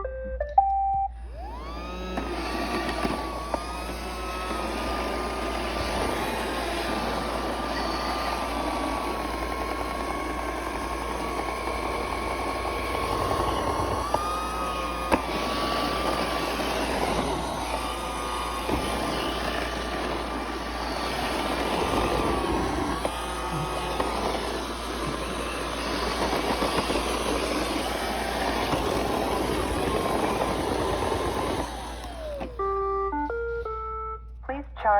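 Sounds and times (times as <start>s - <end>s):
robot vacuum running: 1.2s - 33.4s.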